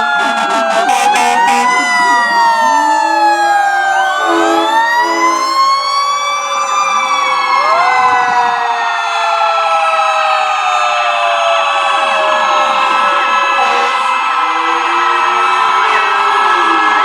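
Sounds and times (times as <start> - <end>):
sirens wailing: 0.0 - 17.0.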